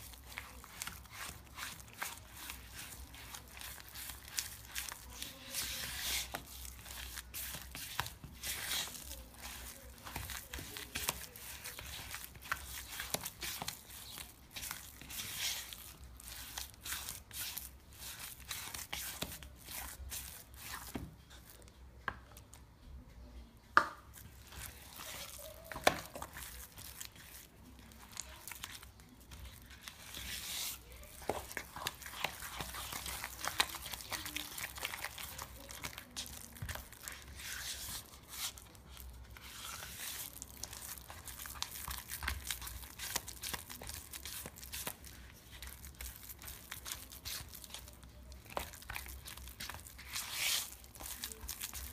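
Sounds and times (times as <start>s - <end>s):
spatula stirring batter: 0.0s - 22.8s, 24.0s - 51.9s.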